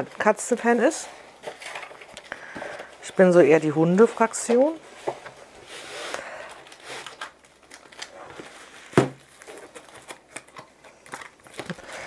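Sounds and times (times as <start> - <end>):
cardboard rustling: 0.0 - 12.0.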